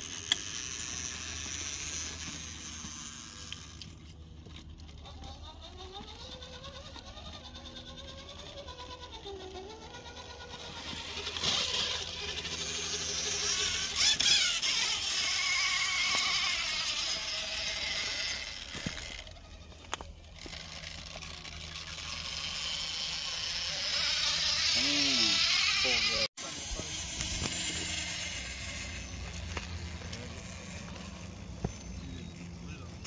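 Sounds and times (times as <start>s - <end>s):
small electric motors whining: 0.0s - 33.0s.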